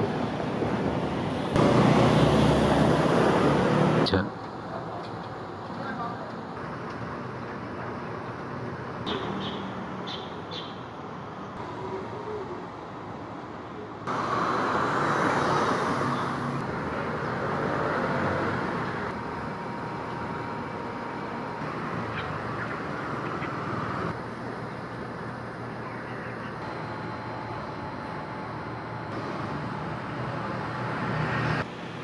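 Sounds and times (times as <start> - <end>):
road traffic hum: 0.0 - 32.0.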